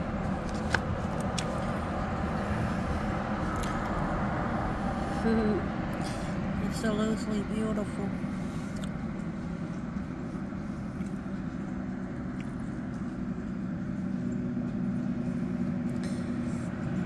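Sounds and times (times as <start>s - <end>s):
distant engine humming: 0.0s - 17.0s.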